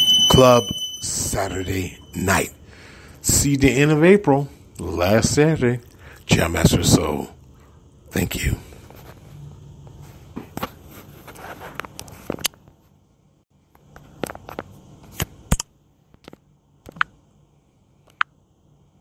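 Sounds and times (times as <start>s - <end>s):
faint low hum and hiss: 0.0s - 19.0s.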